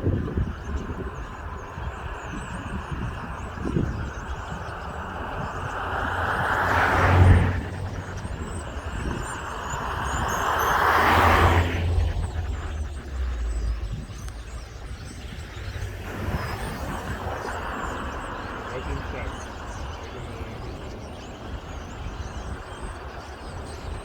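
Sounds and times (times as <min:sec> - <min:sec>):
faint bird chirps: 0:00.0 - 0:24.0
vehicles passing on road: 0:00.0 - 0:24.0.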